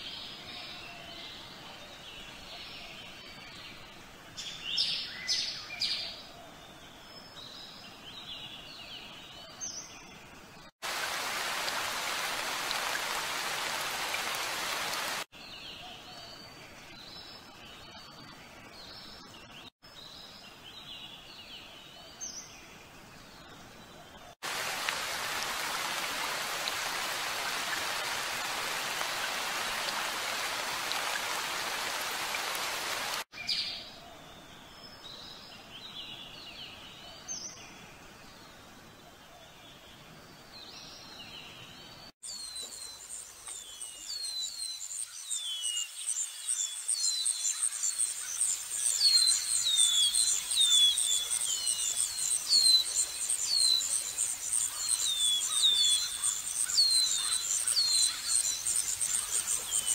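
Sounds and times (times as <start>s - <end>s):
rain-like hiss: 0.0s - 17.3s, 20.0s - 33.4s, 34.0s - 59.9s.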